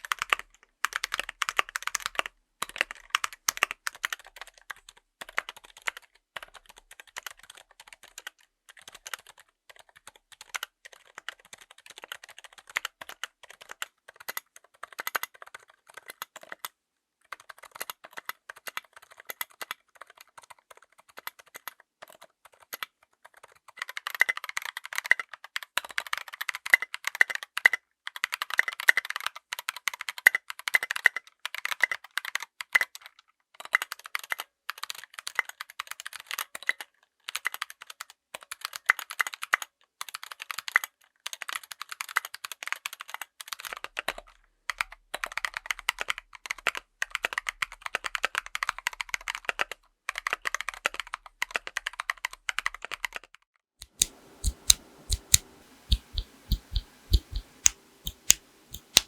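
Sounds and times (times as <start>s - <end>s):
fast typing on mechanical keyboard: 0.0s - 16.7s, 17.3s - 32.4s, 33.8s - 44.2s, 44.8s - 59.0s.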